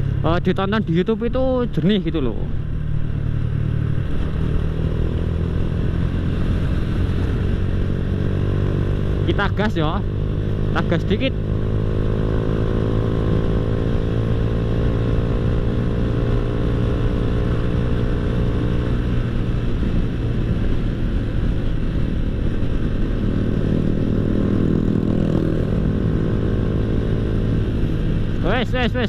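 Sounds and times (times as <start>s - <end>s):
motorcycle engine under throttle: 0.0s - 29.0s.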